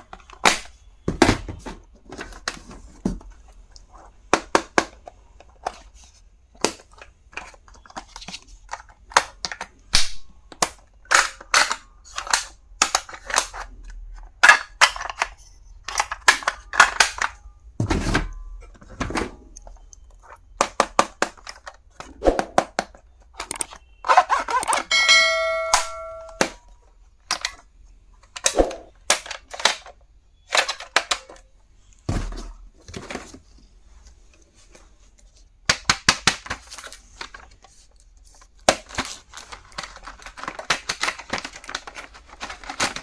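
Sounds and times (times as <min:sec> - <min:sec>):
plastic items clicking and snapping: 0:00.0 - 0:17.4, 0:18.0 - 0:24.9, 0:26.2 - 0:32.0, 0:35.6 - 0:43.0.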